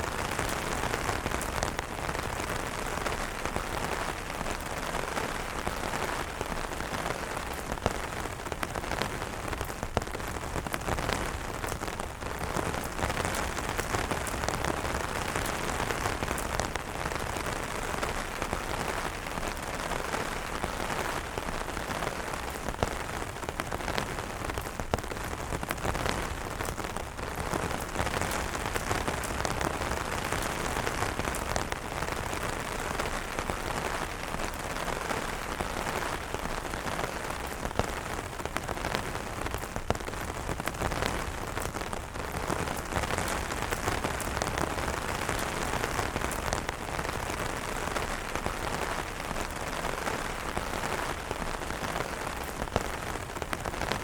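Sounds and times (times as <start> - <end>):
rain on umbrellas: 0.0 - 54.0
raindrops ticking: 0.0 - 54.0.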